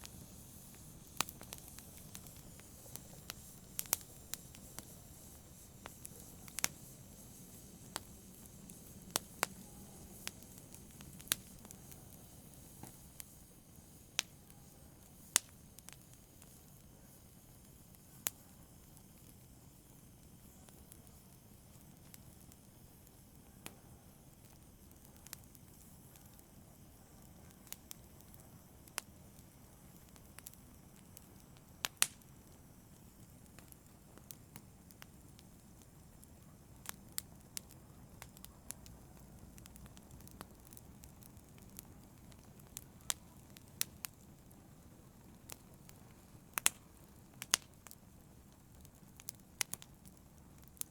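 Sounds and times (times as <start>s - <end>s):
soft steady hiss: 0.0s - 50.9s
wood fire crackling and popping: 0.0s - 50.9s.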